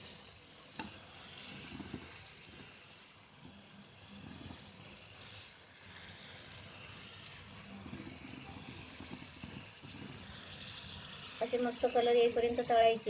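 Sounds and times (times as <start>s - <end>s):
oil sizzling and bubbling: 0.0s - 13.0s.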